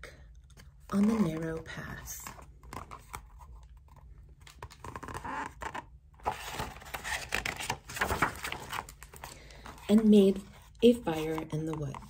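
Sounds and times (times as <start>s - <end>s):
book pages turning: 0.3s - 12.0s.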